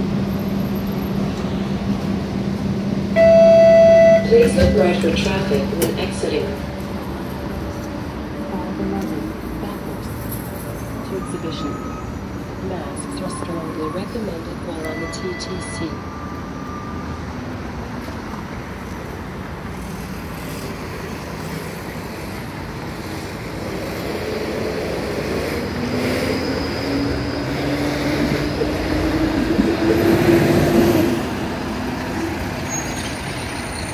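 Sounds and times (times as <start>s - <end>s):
streetcar wheels rumbling on rail: 0.0s - 33.9s.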